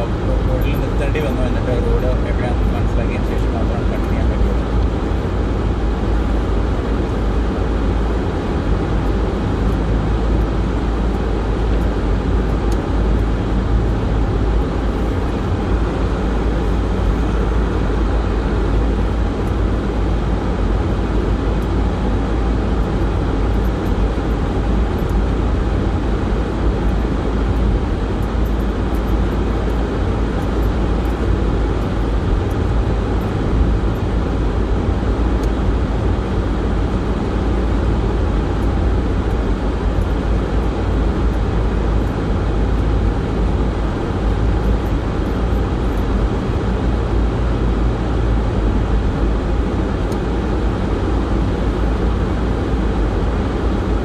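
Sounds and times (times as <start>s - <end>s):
car driving on snow: 0.0s - 54.0s.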